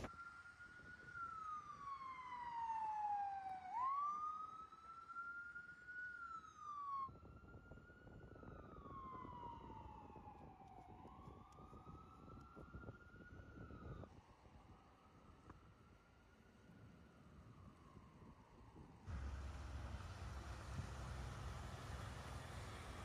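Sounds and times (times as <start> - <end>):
emergency siren wailing: 0.0 - 16.7, 17.4 - 23.0.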